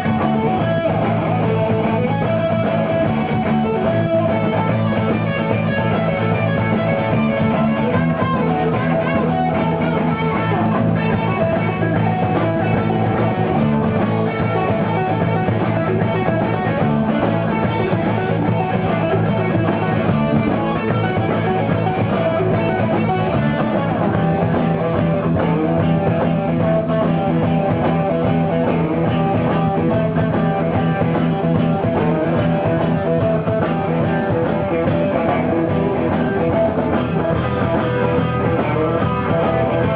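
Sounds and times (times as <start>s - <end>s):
bass line: 0.0s - 39.9s
electric guitar: 0.0s - 39.9s
live rock band playing: 0.0s - 39.9s.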